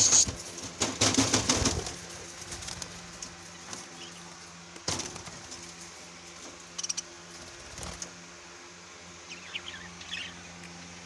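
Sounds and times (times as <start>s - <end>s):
birds chirping: 0.0s - 8.3s, 9.0s - 11.0s.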